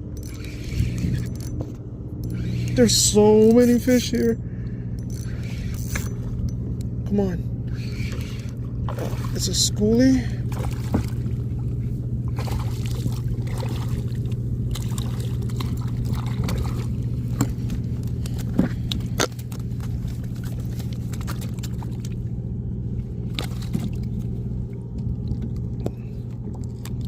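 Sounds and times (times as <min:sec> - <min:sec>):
steady low hum: 0:00.0 - 0:27.0
water sloshing and trickling: 0:00.0 - 0:27.0.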